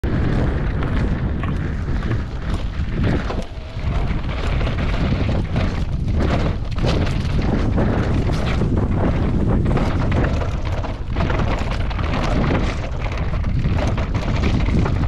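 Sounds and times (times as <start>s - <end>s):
bike clattering over bumps: 0.0s - 15.0s
tyres rumbling over dirt: 0.0s - 15.0s
wind buffeting microphone: 0.0s - 15.0s.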